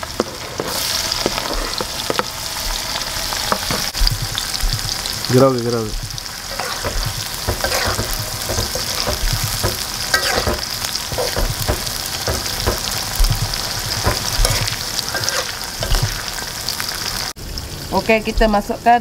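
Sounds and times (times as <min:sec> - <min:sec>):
metal ladle scraping wok: 0:00.0 - 0:17.2
onions sizzling in hot oil: 0:00.0 - 0:19.0.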